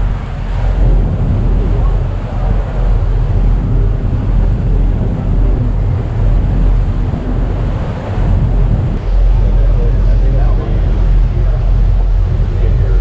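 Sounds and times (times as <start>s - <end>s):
boat engine low rumble: 0.0s - 13.0s
water rushing: 0.0s - 13.0s
wind buffeting microphone: 0.0s - 13.0s.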